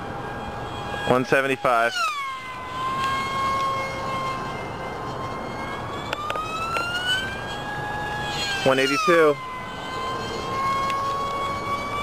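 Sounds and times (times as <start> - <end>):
model plane propeller whine: 0.0 - 12.0.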